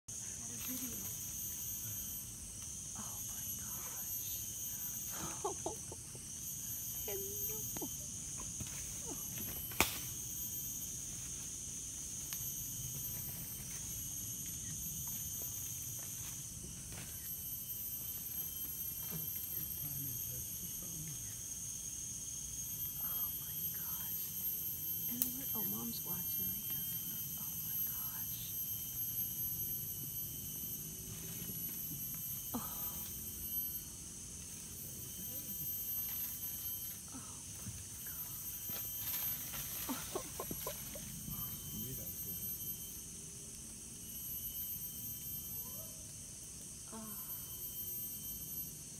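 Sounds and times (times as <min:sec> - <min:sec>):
insects droning: 0:00.1 - 0:48.9.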